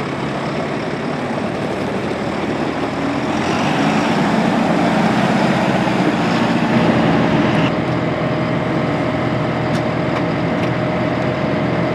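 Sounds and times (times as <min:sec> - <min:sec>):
steady whine: 0:00.0 - 0:11.9
tractor diesel engine running: 0:00.0 - 0:11.9.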